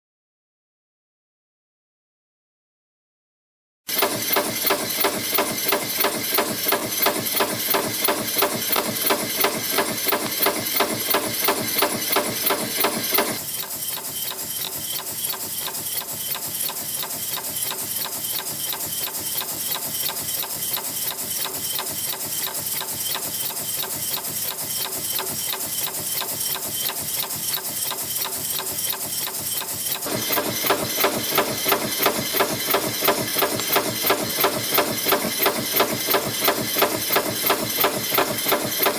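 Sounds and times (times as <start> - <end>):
spring forming machine striking: 3.9 - 38.9.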